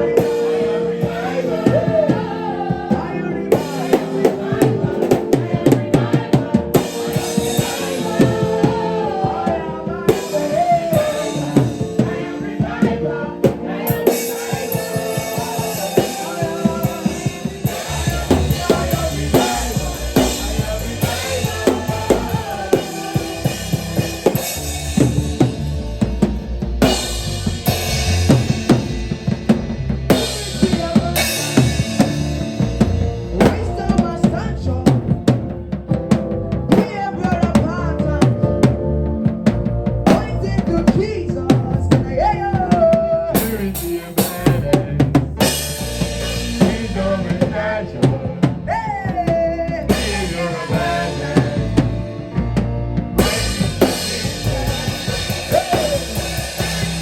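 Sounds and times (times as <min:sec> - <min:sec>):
drum kit playing: 0:00.0 - 0:57.0
heavy bass line: 0:00.0 - 0:57.0.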